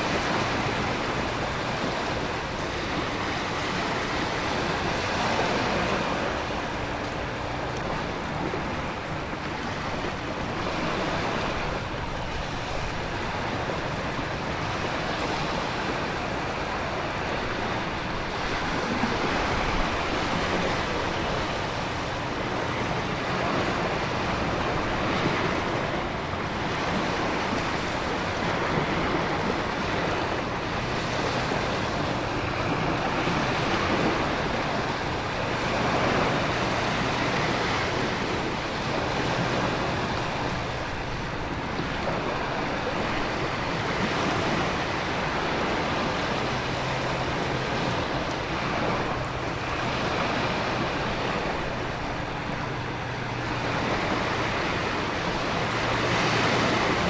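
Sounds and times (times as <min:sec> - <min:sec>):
ocean waves breaking: 0:00.0 - 0:57.0
wind: 0:00.0 - 0:57.0.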